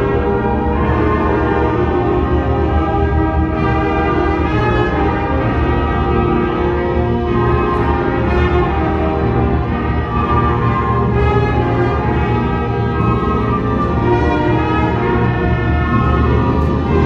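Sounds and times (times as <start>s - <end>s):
concert band playing chords: 0.0s - 17.0s.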